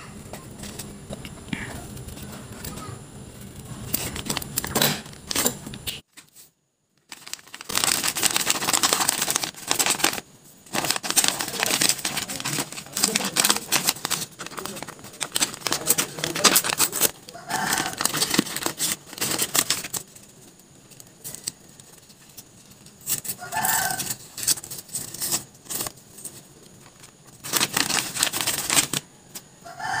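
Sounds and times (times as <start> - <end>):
paper rustling and crinkling: 3.4 - 29.1.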